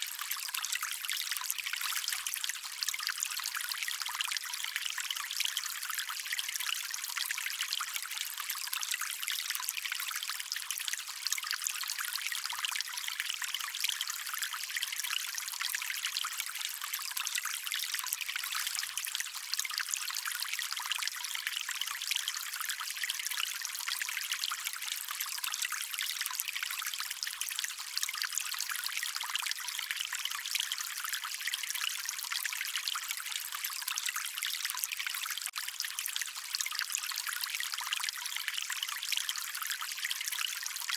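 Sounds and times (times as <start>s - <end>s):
small stream trickling: 0.0s - 40.9s.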